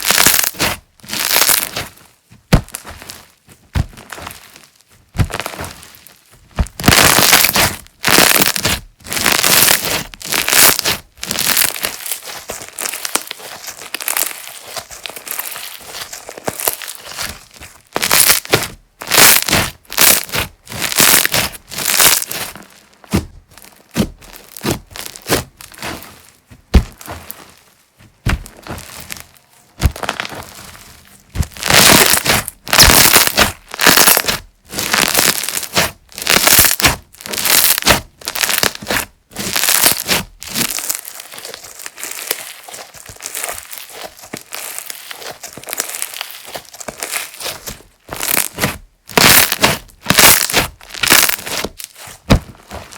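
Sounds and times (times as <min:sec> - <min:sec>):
wet crackling slime squishes: 0:00.0 - 0:52.9.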